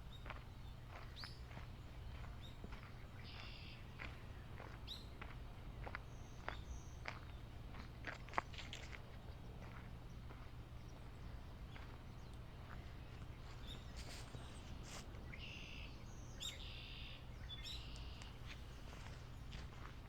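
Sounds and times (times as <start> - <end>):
birds calling: 0.1 - 20.0.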